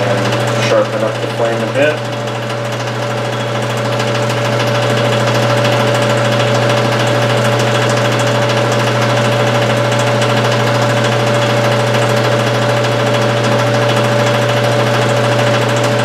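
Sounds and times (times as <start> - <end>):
vacuum pump machine humming: 0.0 - 16.0.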